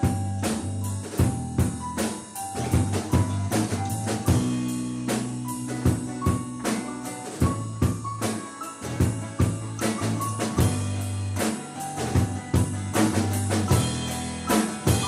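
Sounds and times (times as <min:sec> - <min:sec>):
bass line: 0:00.0 - 0:08.2, 0:08.9 - 0:15.0
drum kit beat: 0:00.0 - 0:15.0.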